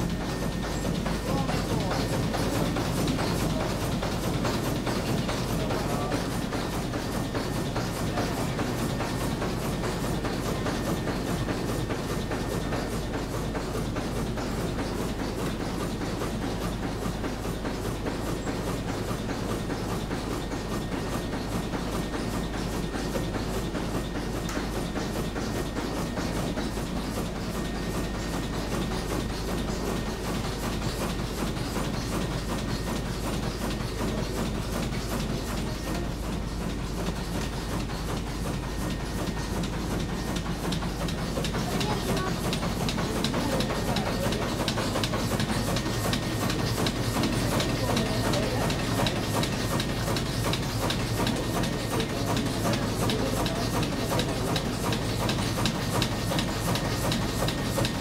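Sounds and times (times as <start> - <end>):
steam engine clatter: 0.0 - 58.0.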